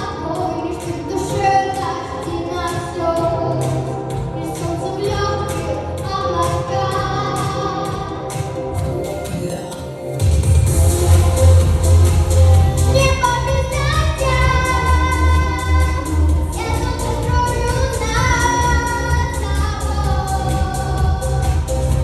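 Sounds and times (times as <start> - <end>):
girl singing pop song: 0.0 - 9.5, 11.5 - 22.0
electronic beat with heavy bass: 3.2 - 22.0.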